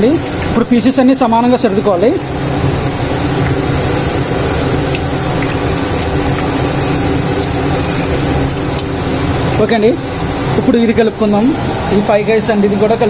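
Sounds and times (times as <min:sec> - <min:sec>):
motor droning with low hum: 0:00.0 - 0:13.0.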